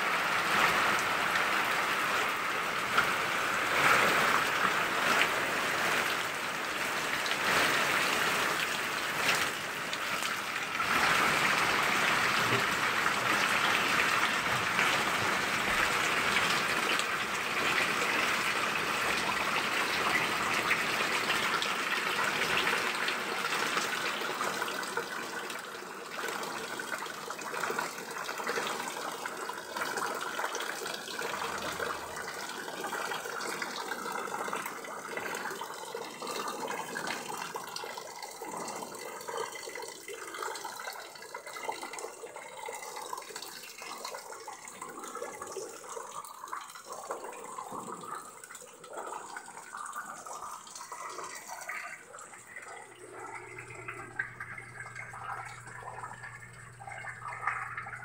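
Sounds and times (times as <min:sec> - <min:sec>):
heavy rain pouring off roof: 0:00.0 - 0:46.6.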